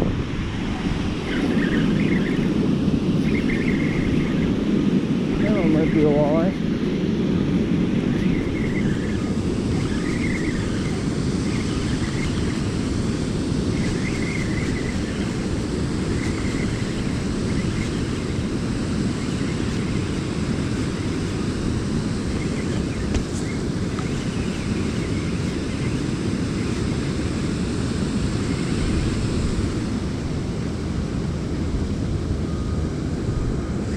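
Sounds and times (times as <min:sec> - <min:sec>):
wind on microphone: 0:00.0 - 0:33.9.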